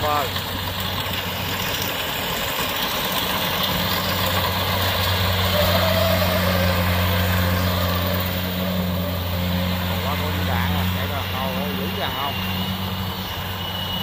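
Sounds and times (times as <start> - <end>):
combine harvester engine: 0.0 - 14.0
low hum: 0.0 - 14.0.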